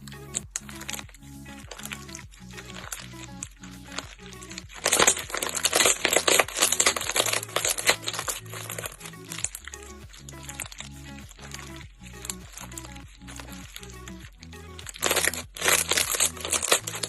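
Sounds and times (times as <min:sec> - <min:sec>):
slime crackling and popping: 0:00.0 - 0:17.0
soft background music: 0:00.0 - 0:17.0.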